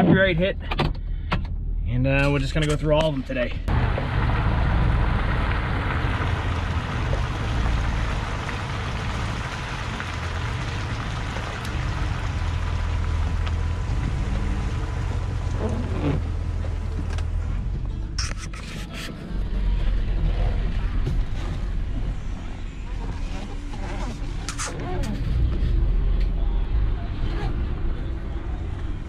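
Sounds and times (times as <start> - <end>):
truck engine rumble: 0.0 - 29.0.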